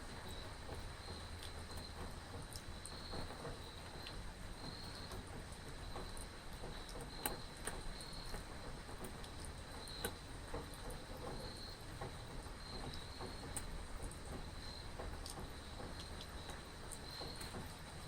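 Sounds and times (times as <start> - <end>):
raindrops tapping: 0.0 - 18.0
steady rain: 0.0 - 18.0.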